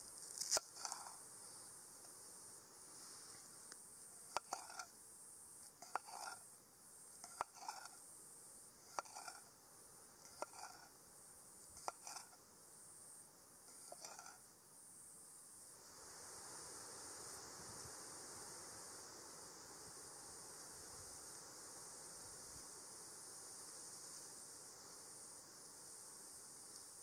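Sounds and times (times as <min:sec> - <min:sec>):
insect chirring: 0:00.0 - 0:27.0.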